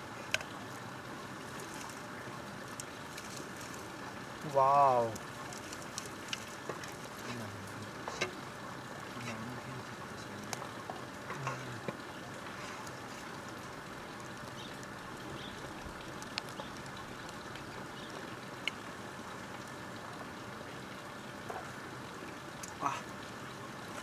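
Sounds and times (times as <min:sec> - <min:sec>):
wood fire crackling: 0:00.0 - 0:20.6.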